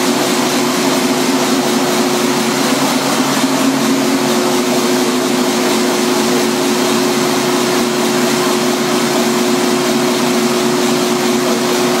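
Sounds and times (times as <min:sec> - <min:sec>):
stationary gas engine running: 0:00.0 - 0:12.0.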